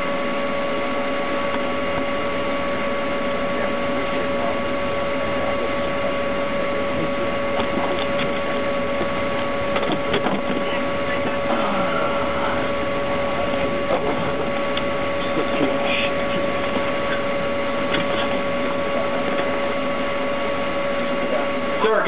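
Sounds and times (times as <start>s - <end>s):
constant high whine: 0.0s - 22.0s
car cabin noise: 1.4s - 22.0s.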